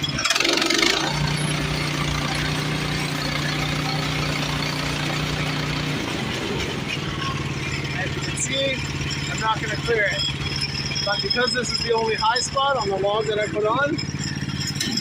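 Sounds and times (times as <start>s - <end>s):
small gasoline engine idling: 0.0s - 15.0s.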